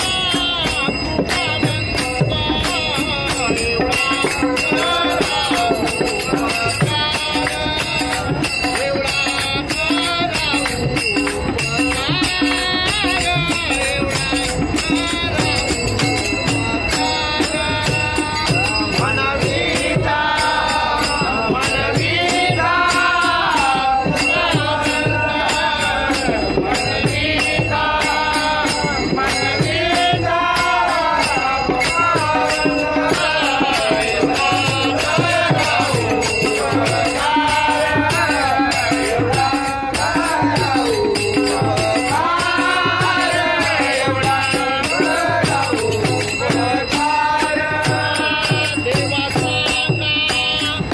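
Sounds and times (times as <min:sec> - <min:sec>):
brass hand cymbals clashing: 0:00.0 - 0:50.9
hand drum: 0:00.0 - 0:50.9
men singing together: 0:00.0 - 0:50.9.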